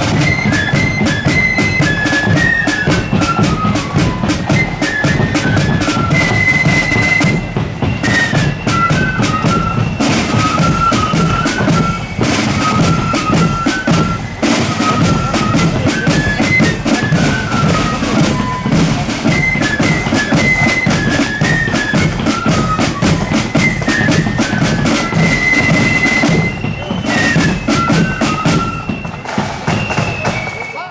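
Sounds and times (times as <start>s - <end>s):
snare and bass drumming: 0.0s - 30.9s
wind instruments playing tune: 0.0s - 30.9s.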